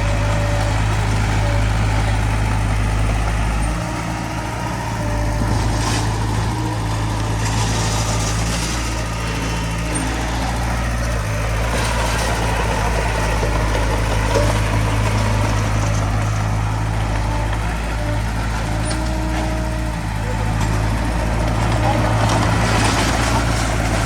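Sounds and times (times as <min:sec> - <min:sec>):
heavy machinery diesel engine hum: 0:00.0 - 0:24.0.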